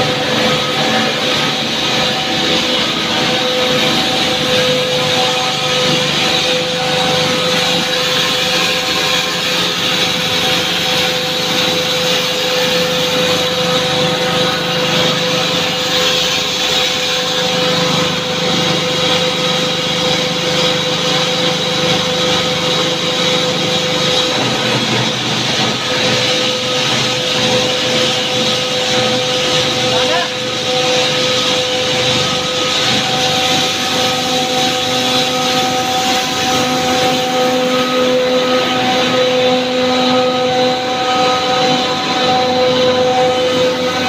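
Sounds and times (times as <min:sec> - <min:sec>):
motors humming and whining: 0:00.0 - 0:44.0.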